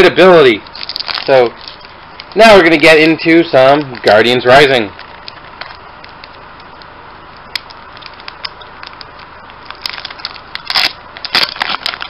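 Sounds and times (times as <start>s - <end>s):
foil wrapper crinkling and tearing: 0.2s - 12.0s.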